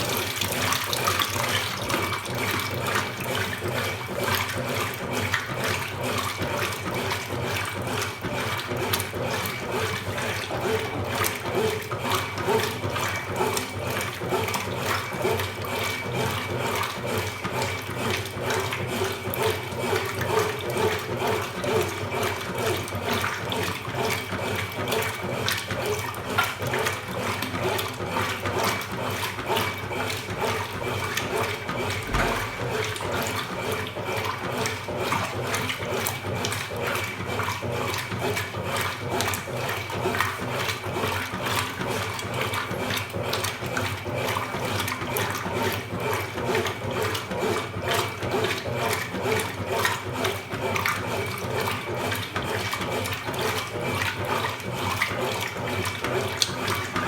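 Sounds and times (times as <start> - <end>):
washing machine water splashing: 0.0 - 57.0.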